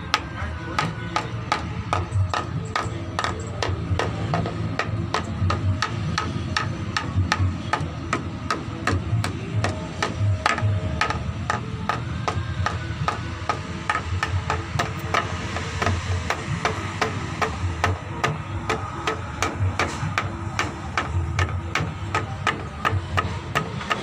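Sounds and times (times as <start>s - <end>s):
hand striking bamboo: 0.0s - 24.0s.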